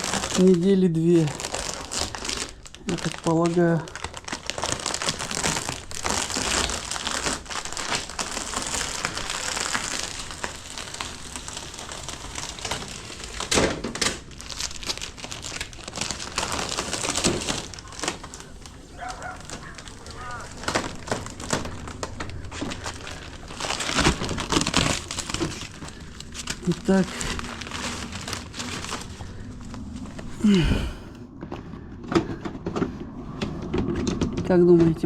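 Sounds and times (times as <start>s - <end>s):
plastic wrapping crinkling: 0.0s - 31.2s.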